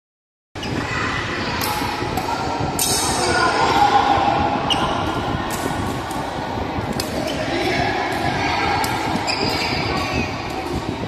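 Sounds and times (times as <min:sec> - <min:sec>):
faint voices: 0:00.6 - 0:11.0
sports hall background noise: 0:00.6 - 0:11.0.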